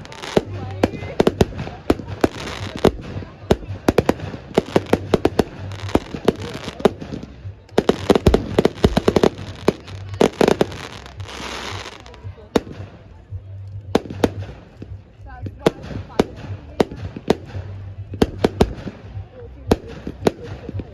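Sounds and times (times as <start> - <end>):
fireworks bangs and crackles: 0.0 - 20.9.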